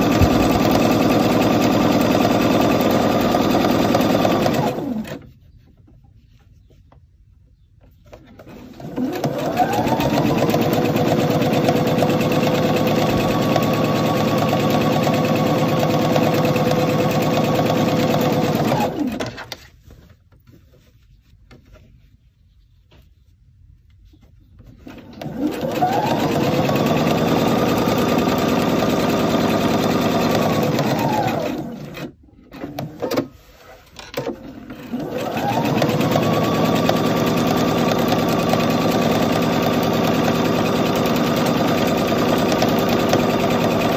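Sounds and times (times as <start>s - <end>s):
sewing machine stitching: 0.0s - 5.3s, 8.1s - 19.6s, 24.8s - 43.9s.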